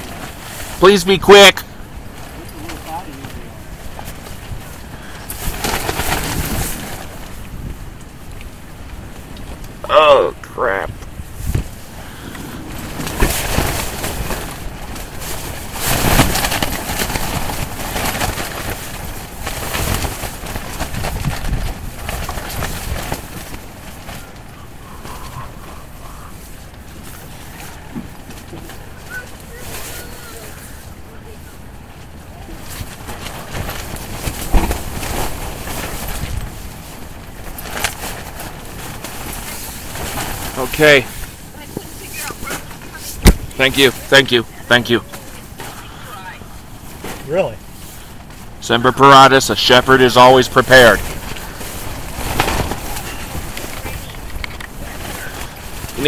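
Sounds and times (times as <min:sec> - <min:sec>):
low wind rumble: 0:00.0 - 0:56.0
tent fabric flapping in wind: 0:00.0 - 0:56.0.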